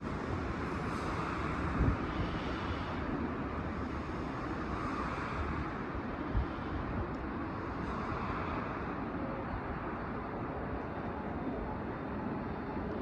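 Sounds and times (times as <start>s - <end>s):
wind noise on microphone: 0.0s - 11.1s
steady outdoor rumble: 0.0s - 13.0s.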